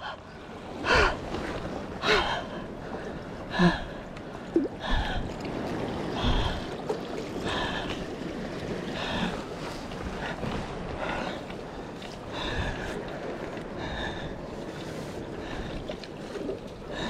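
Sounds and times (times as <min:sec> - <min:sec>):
waves washing among concrete: 0:00.6 - 0:17.0.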